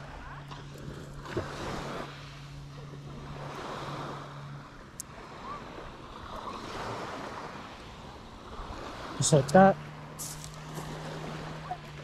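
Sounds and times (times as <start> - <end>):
low steady hum: 0.0 - 12.0
small waves washing onto sand: 0.0 - 12.0.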